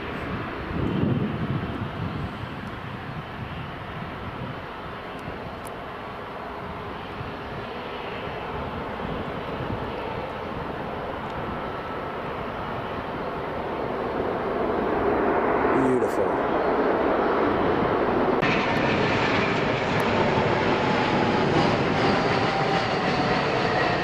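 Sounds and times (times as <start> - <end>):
airliner engine rushing: 0.0 - 24.0.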